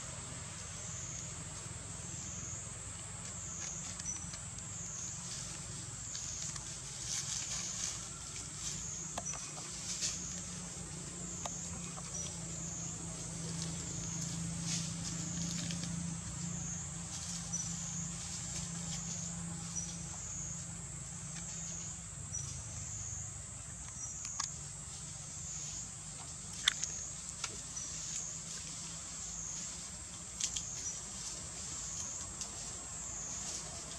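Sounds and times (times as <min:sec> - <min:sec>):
cicada chorus: 0:00.0 - 0:33.9
low steady hum: 0:00.0 - 0:33.9
dry leaves rustling: 0:03.2 - 0:22.0, 0:24.6 - 0:33.9.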